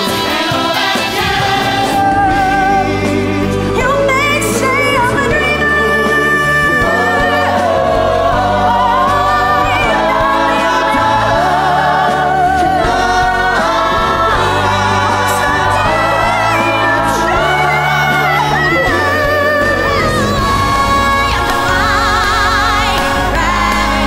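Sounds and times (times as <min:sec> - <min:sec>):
backing music: 0:00.0 - 0:24.0
group singing musical song: 0:00.0 - 0:24.0.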